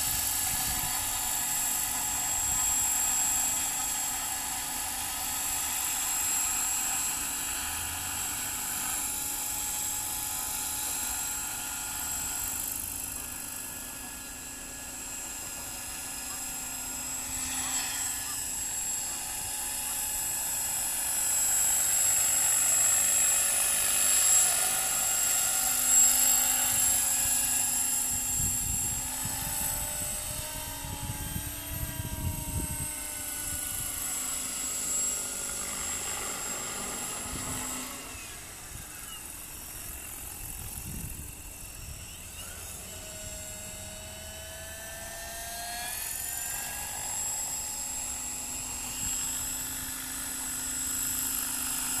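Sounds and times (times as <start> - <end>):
model helicopter whine: 0.0 - 52.0.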